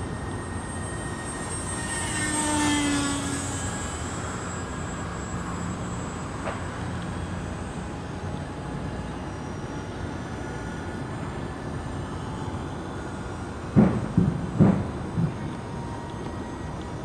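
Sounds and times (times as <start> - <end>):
model jet motor whine: 0.0 - 17.0.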